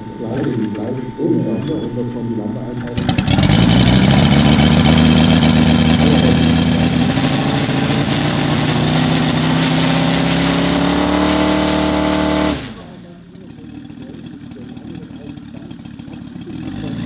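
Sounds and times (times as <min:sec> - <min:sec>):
model radial engine running: 0:00.0 - 0:17.0.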